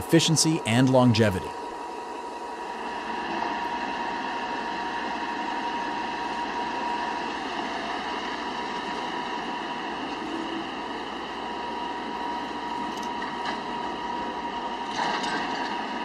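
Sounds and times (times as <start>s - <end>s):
thin constant whine: 0.0s - 16.0s.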